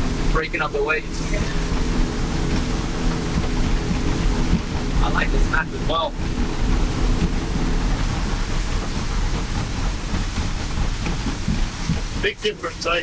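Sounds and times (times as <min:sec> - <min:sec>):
outboard motors humming: 0:00.0 - 0:13.0
wind and water rushing along hull: 0:00.0 - 0:13.0.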